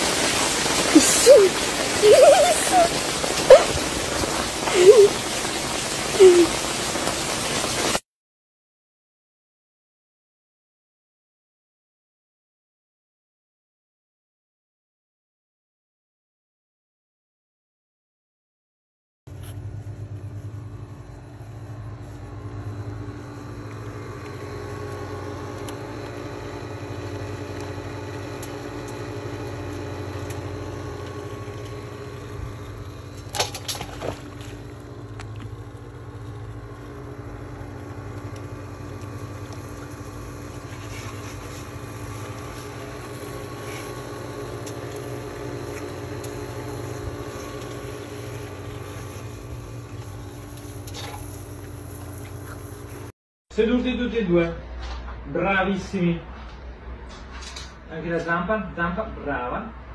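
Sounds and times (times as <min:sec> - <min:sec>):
mechanical hum: 0:00.0 - 0:08.0, 0:19.3 - 0:59.9.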